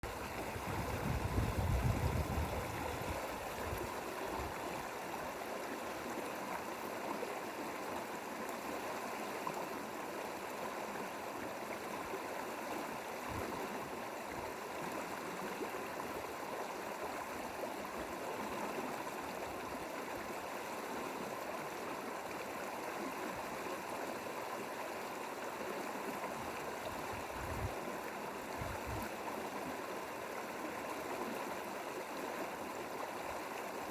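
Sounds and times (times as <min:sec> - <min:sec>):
stream flowing over rocks: 0:00.0 - 0:33.9.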